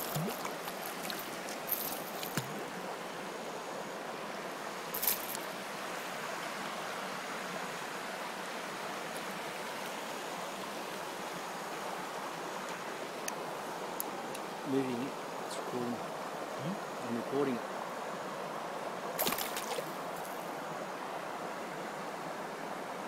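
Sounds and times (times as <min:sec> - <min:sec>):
running water rushing: 0:00.0 - 0:23.0.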